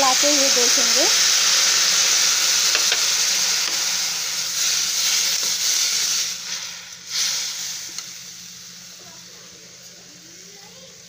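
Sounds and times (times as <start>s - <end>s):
vermicelli sizzling in a hot pan: 0.0s - 11.0s.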